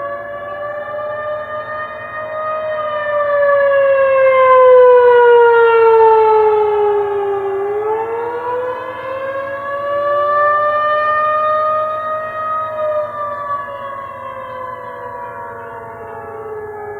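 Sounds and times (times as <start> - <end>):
loud sustained wail: 0.0 - 16.9.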